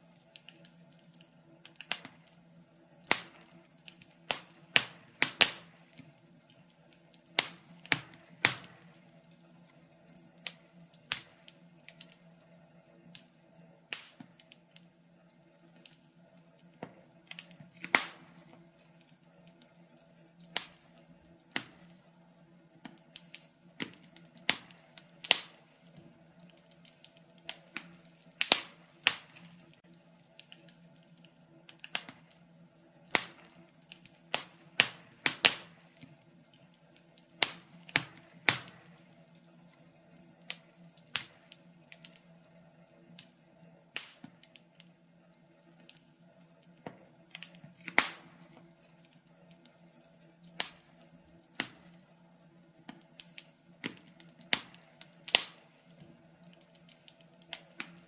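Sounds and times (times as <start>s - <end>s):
faint steady low hum: 0.0s - 58.0s
wood fire crackling and popping: 0.0s - 58.0s.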